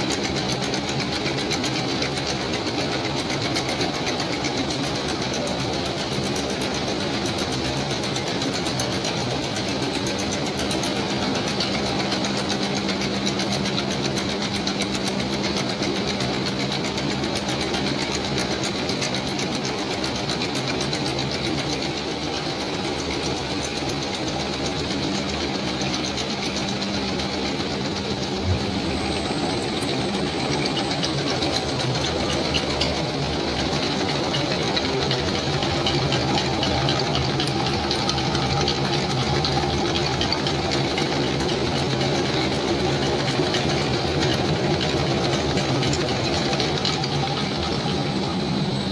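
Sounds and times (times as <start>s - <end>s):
textile machinery humming and clattering: 0.0s - 48.9s.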